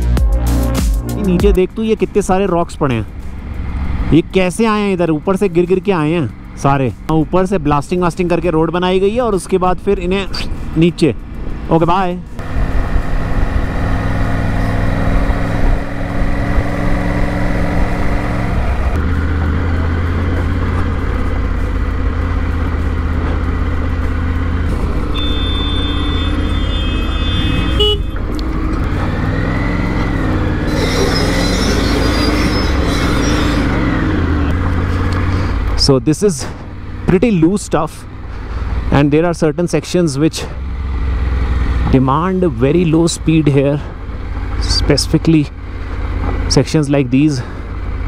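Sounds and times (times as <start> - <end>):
motorcycle engine running: 1.2 - 39.2, 39.9 - 46.8.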